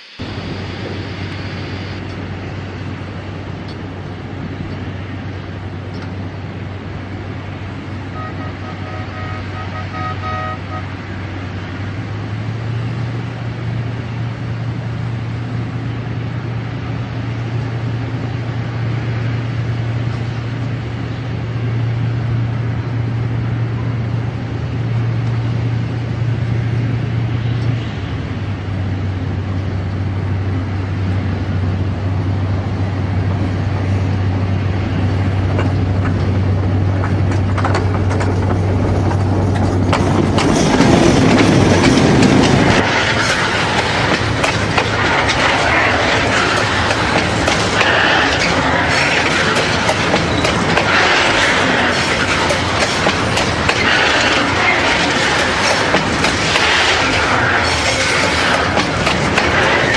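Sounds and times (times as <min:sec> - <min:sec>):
diesel locomotive engine drone: 0:00.0 - 0:59.9
train wheels clicking over rails: 0:11.2 - 0:59.9.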